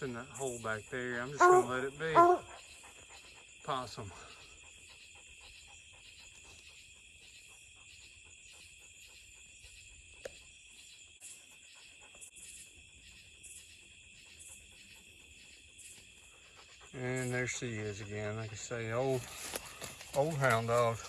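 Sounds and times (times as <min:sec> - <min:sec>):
night insects chirping: 0:00.0 - 0:21.0.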